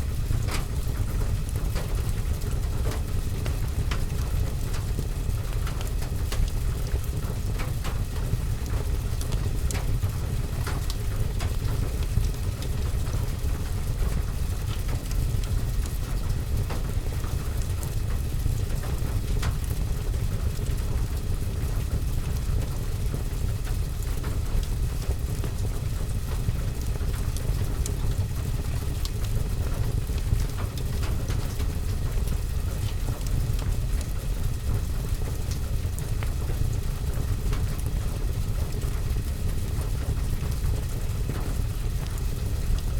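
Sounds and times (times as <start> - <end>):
rain on window and roof: 0.0 - 42.9
wood fire crackling: 0.1 - 42.9.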